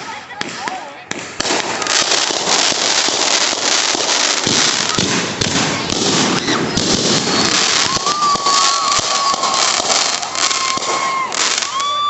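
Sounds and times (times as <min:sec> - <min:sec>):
deep fireworks booms: 0:00.0 - 0:12.0
fireworks crackling pops: 0:00.0 - 0:12.0.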